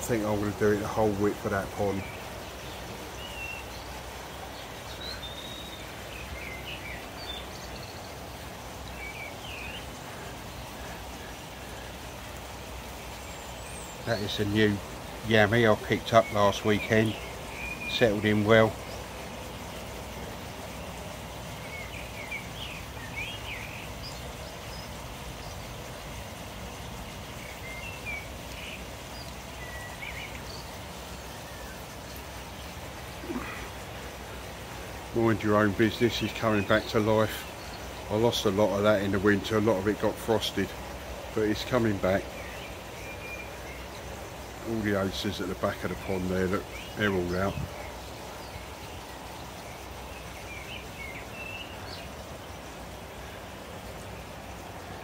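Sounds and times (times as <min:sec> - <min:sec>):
small waterfall splashing: 0:00.0 - 0:55.0
bird chirps: 0:00.6 - 0:12.0, 0:12.8 - 0:19.9, 0:20.7 - 0:33.8, 0:40.5 - 0:53.4.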